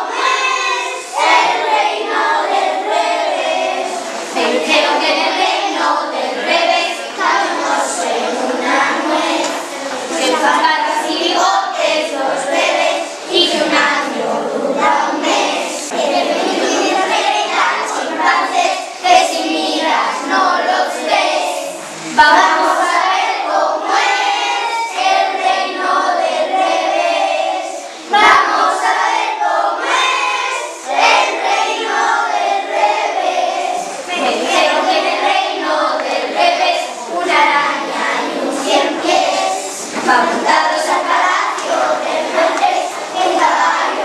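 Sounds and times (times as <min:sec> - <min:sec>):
children singing: 0:00.0 - 0:44.0.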